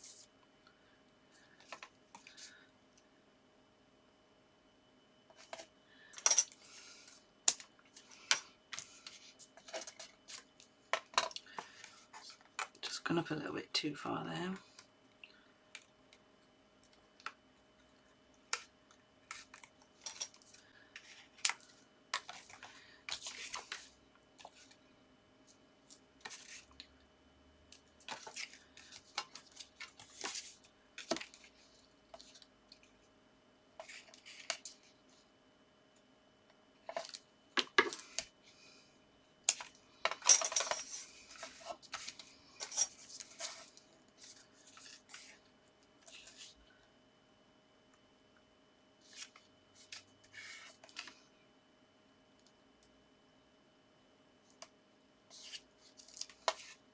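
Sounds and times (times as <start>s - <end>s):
faint steady hum: 0.0s - 56.9s.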